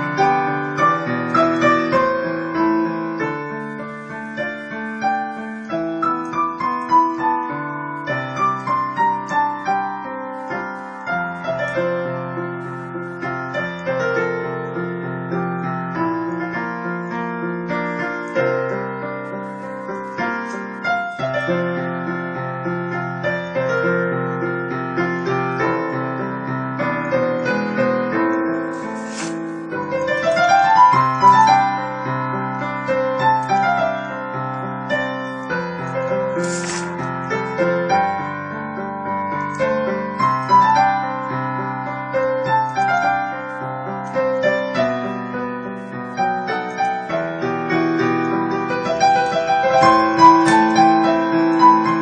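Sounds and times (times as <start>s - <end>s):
slow dreamy digital piano: 0.0s - 52.0s.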